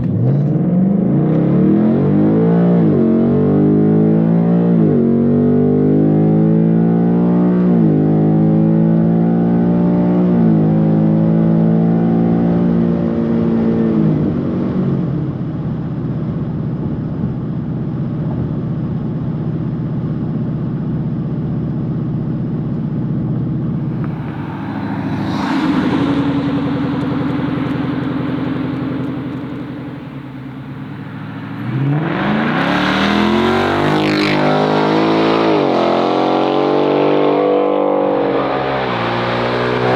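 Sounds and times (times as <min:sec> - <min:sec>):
car engine accelerating hard: 0:00.0 - 0:15.6, 0:22.9 - 0:39.9.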